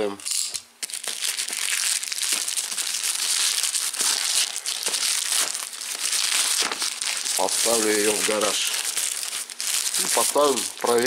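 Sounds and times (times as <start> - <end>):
packaging crinkling and rustling: 0.8 - 11.0.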